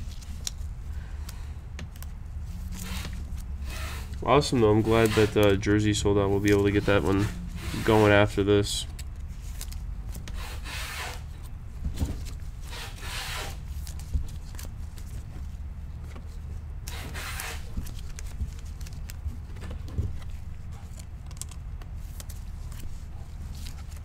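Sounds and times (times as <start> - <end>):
cards rustling and scraping: 0.0 - 24.0
steady low hum: 0.0 - 24.0.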